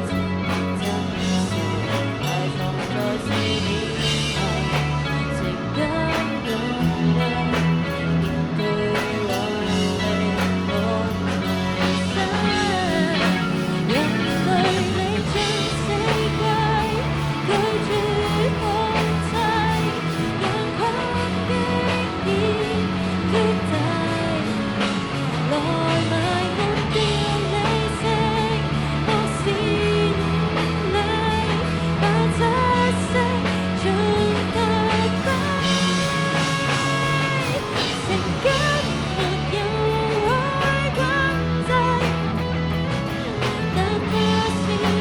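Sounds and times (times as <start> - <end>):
pop rock song with singing: 0.0 - 45.0.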